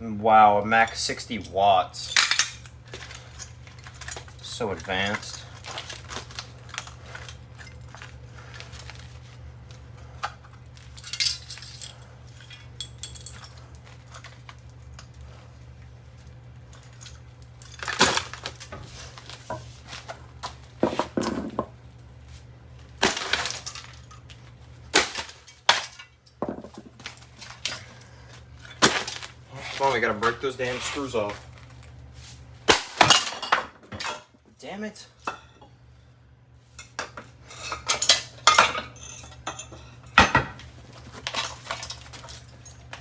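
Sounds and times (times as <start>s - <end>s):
steady low hum: 0.0s - 43.0s
parts clattering: 0.8s - 15.3s, 16.7s - 21.8s, 23.0s - 31.9s, 36.8s - 43.0s.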